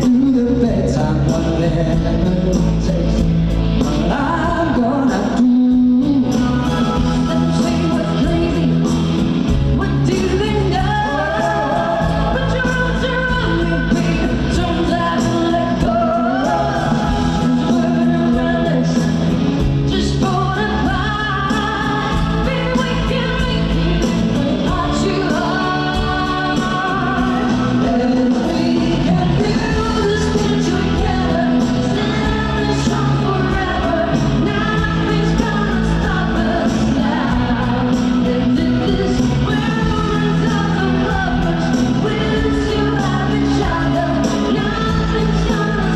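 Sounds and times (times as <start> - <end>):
full band playing pop-rock: 0.0 - 45.9
person singing: 0.0 - 45.9.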